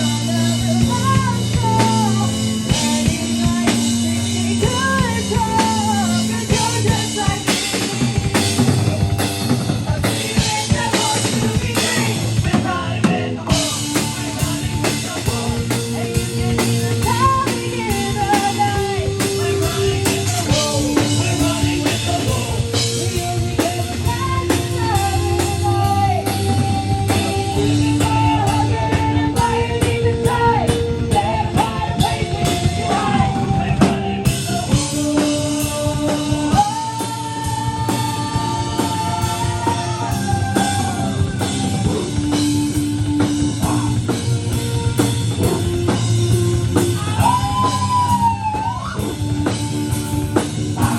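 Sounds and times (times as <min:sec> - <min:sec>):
live rock band playing: 0:00.0 - 0:50.9.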